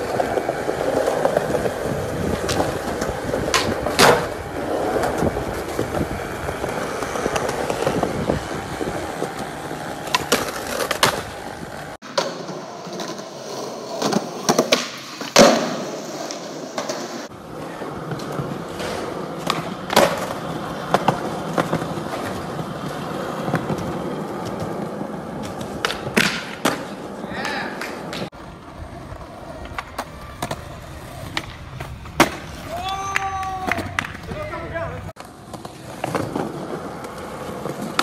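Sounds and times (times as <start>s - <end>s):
skateboard clacks: 0.0s - 38.0s
skateboard wheels rolling on concrete: 0.0s - 38.0s.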